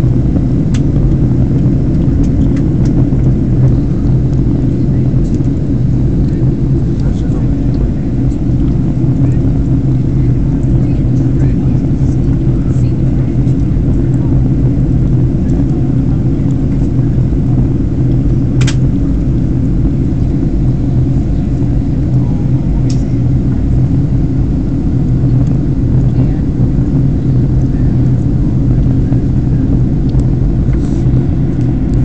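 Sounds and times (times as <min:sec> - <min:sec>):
airliner cabin engine roar: 0:00.0 - 0:32.0.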